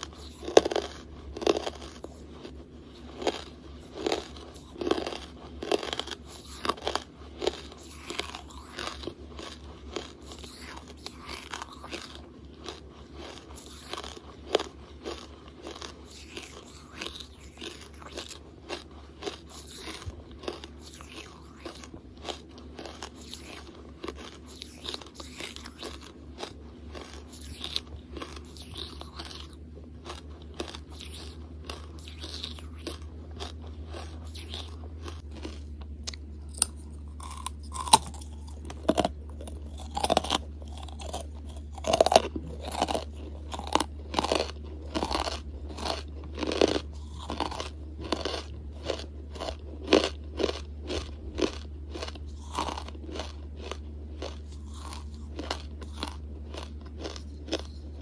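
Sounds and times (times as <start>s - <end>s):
charcoal being chewed crunching: 0.0s - 58.0s
steady low hum: 0.0s - 58.0s.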